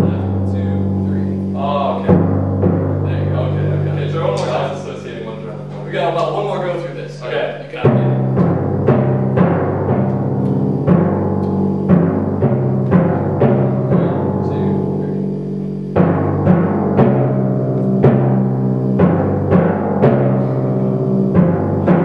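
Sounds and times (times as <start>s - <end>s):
timpani struck with mallets: 0.0s - 22.0s.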